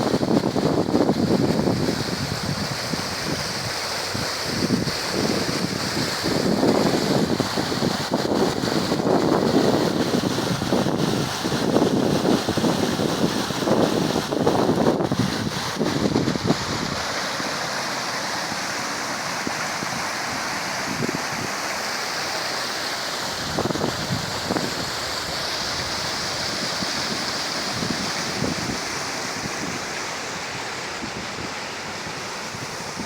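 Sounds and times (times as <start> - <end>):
sea surf washing in: 0.0 - 33.0.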